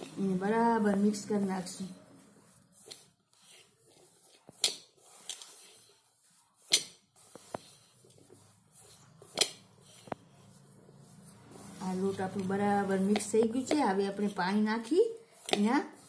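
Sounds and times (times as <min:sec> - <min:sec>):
hands rubbing flour mix: 0:00.0 - 0:16.0.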